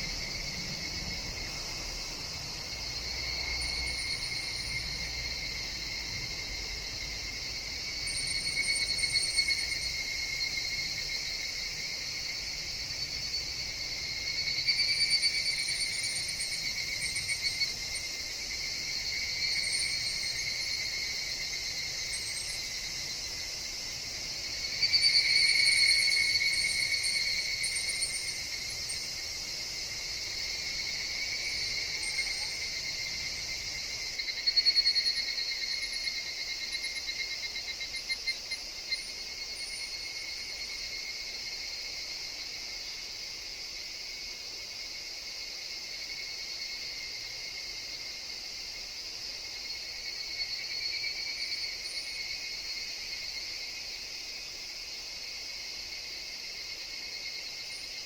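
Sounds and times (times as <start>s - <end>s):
cicadas trilling: 0.0s - 58.0s
high hiss of insects: 0.0s - 58.0s.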